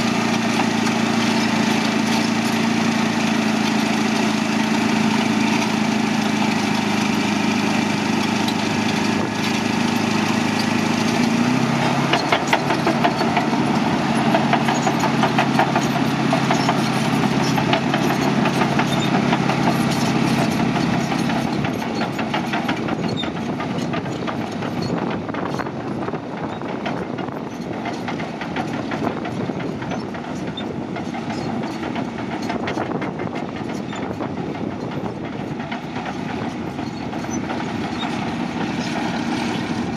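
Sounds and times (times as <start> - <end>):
diesel engine running: 0.0 - 39.9
steel tracks clanking: 0.0 - 39.9.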